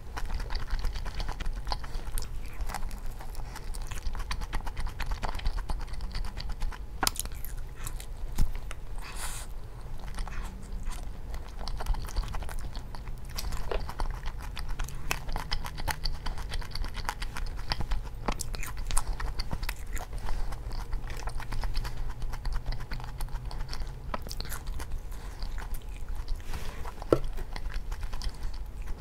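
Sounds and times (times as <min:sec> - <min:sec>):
chewing crispy chicken: 0:00.0 - 0:29.0.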